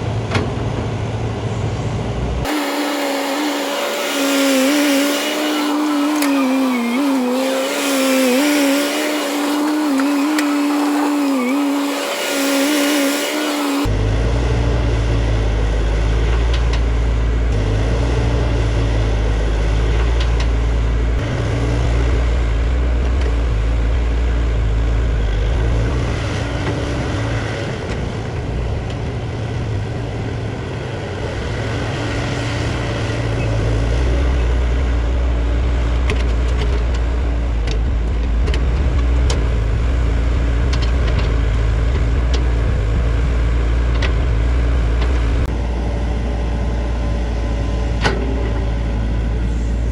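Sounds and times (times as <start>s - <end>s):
excavator diesel engine: 0.0s - 49.9s.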